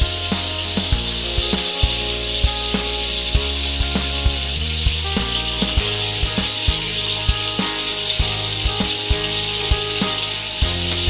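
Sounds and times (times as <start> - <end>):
background music with steady beat: 0.0 - 11.0
meat sizzling in hot oil: 0.0 - 11.0.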